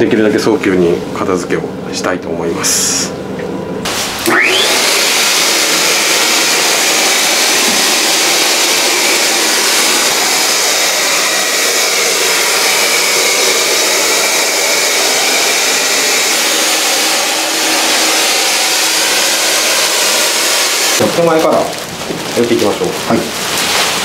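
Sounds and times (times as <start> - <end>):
fogger blower motor running: 0.0 - 24.0.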